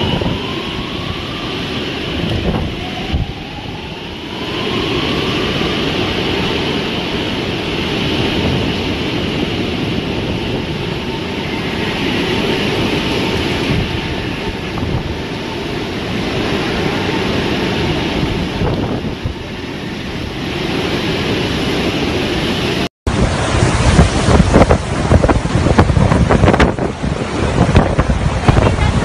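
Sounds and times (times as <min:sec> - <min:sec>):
storm wind buffeting microphone: 0:00.0 - 0:29.0.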